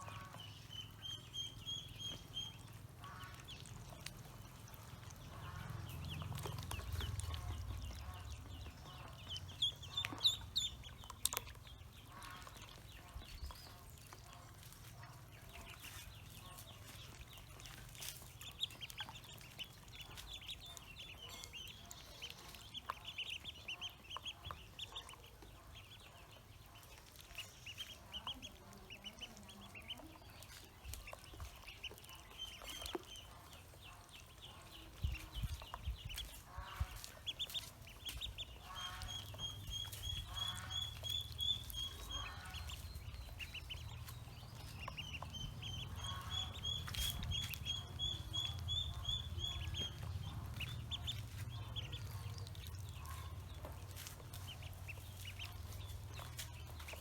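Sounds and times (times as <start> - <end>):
ducklings peeping: 0.0 - 57.0.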